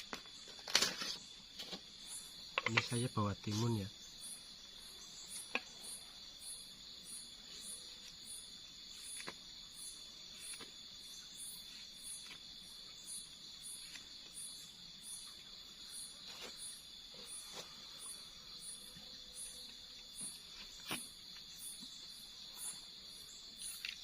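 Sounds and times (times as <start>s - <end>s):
insect chirp pulsing: 0.0s - 24.0s
insect high trill: 0.0s - 24.0s.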